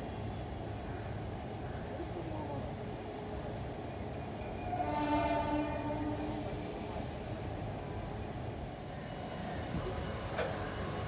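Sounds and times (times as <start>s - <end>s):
high-pitched whine: 0.0s - 11.0s
locomotive low hum: 0.0s - 11.0s.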